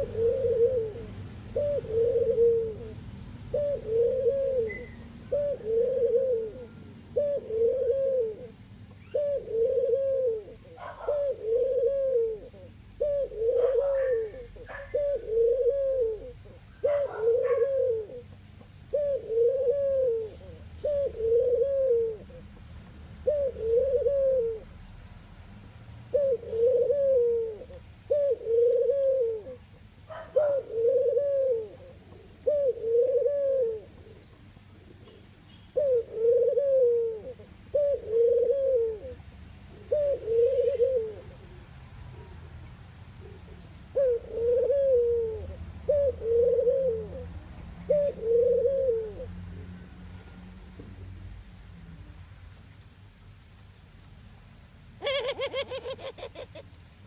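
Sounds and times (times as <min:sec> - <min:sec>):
dove cooing: 0:00.0 - 0:24.8, 0:26.1 - 0:42.4, 0:43.1 - 0:49.6, 0:55.0 - 0:56.8.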